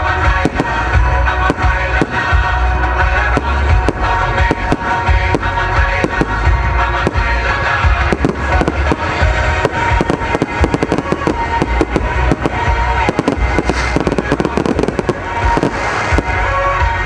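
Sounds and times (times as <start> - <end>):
fireworks bursting and crackling: 0.0 - 17.0
music: 0.0 - 17.0.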